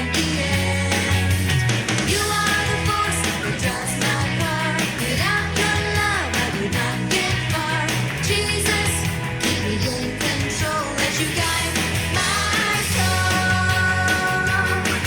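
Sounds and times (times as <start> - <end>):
person singing: 0.0 - 1.2, 2.1 - 15.0
upbeat worship rock song: 0.0 - 15.0.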